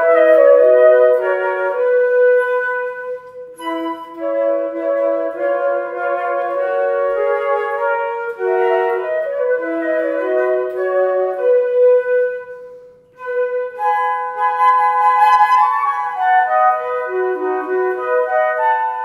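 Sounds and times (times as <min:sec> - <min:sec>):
flutes playing slow piece: 0:00.0 - 0:19.0.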